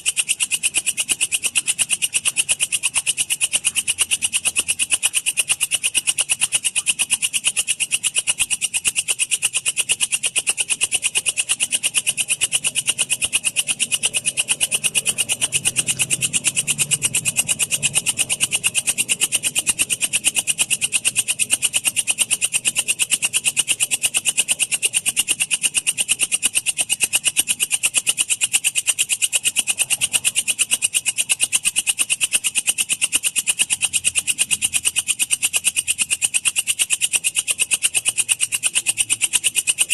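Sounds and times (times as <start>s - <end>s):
insect high-pitched chirps: 0.0s - 39.9s.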